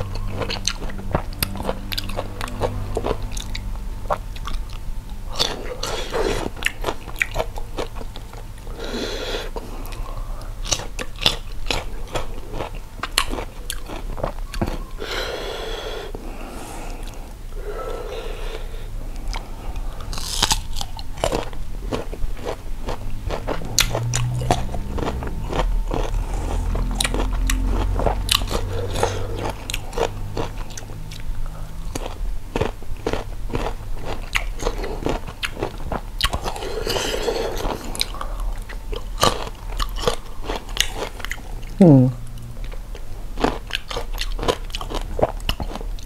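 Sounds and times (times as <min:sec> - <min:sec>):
crunchy biting and chewing: 0:00.0 - 0:46.0.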